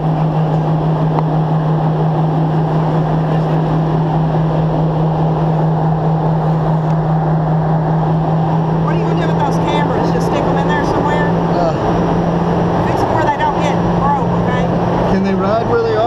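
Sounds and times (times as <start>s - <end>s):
aircraft engine and airflow drone: 0.0s - 16.0s
constant low hum: 0.0s - 16.0s.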